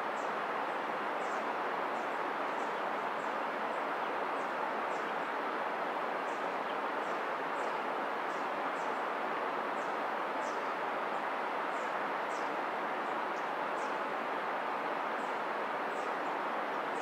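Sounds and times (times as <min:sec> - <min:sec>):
river flowing: 0:00.0 - 0:17.0.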